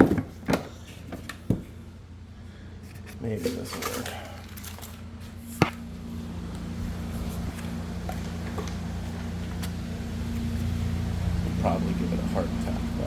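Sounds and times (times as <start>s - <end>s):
constant low rumble: 0.0s - 13.0s
steady low hum: 0.0s - 13.0s.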